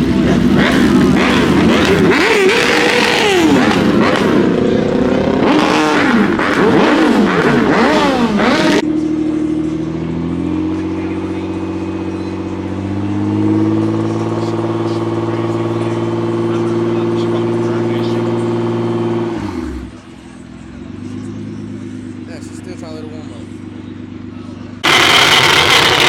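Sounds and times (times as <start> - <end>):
car engine idling: 0.0 - 26.0
car engines revving hard: 0.0 - 26.0.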